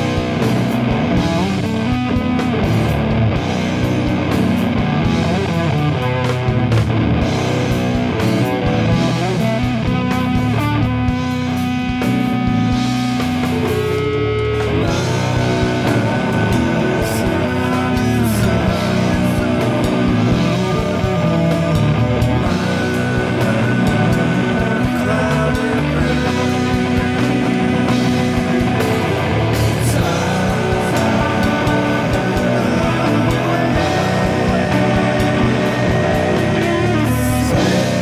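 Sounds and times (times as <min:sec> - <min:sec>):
doom metal song: 0:00.0 - 0:38.0.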